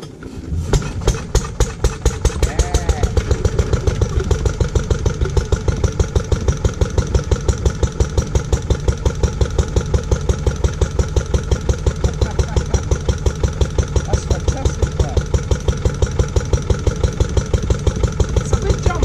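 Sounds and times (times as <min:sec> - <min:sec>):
stationary engine idling: 0:00.0 - 0:19.0.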